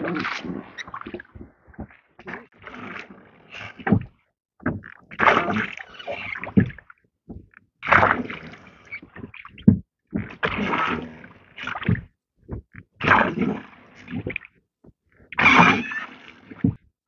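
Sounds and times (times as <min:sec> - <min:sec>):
water splashing around boat: 0:00.0 - 0:17.0.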